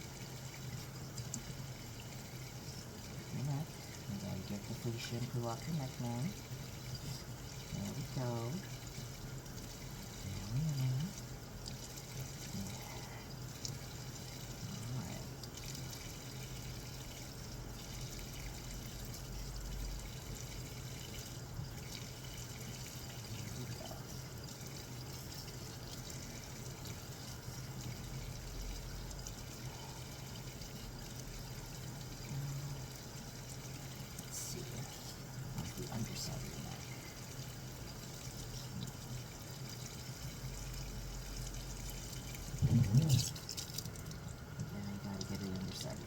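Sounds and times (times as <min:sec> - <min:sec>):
sink faucet running: 0:00.0 - 0:46.0.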